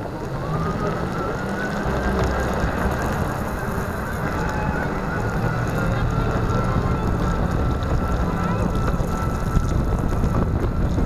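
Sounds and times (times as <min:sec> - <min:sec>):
tyre noise on wet pavement: 0:00.0 - 0:11.0
wind noise: 0:00.0 - 0:11.0.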